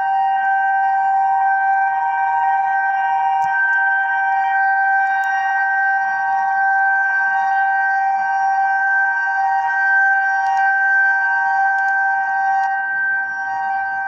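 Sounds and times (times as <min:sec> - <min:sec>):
fire siren steady chord: 0:00.0 - 0:14.0.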